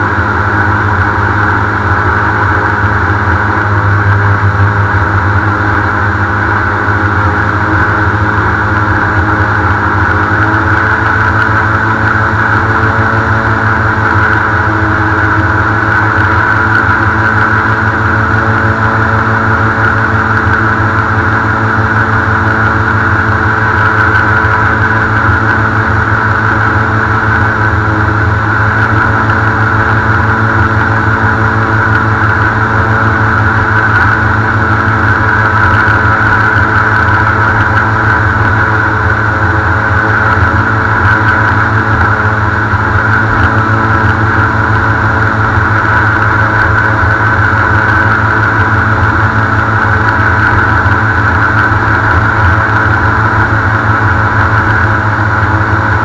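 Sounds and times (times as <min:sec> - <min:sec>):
airboat engine and propeller: 0:00.0 - 0:56.0.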